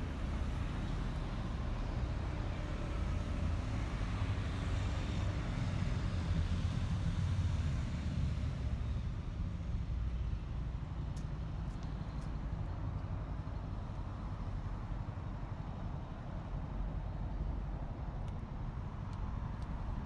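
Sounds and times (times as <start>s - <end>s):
low outdoor rumble with hiss: 0.0s - 20.0s.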